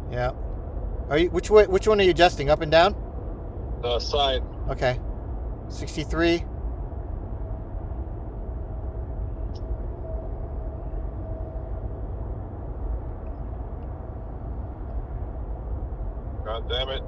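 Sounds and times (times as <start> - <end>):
faint steady hum: 0.0 - 17.0
low rumbling background noise: 0.0 - 17.0.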